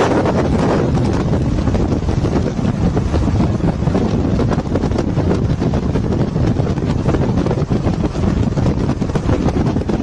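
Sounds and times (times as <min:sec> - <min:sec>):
road and engine rumble: 0:00.0 - 0:10.0
wind buffeting microphone: 0:00.0 - 0:10.0.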